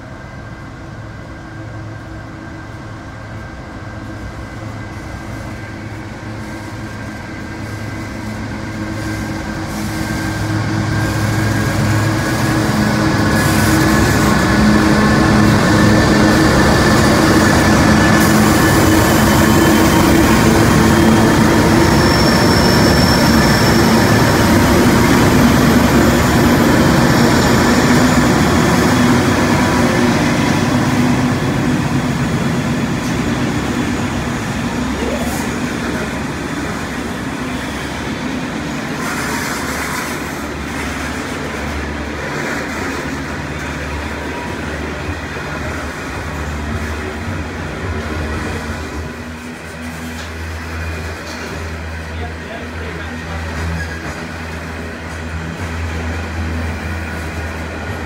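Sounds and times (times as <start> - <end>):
locomotive engines droning: 0.0 - 58.0.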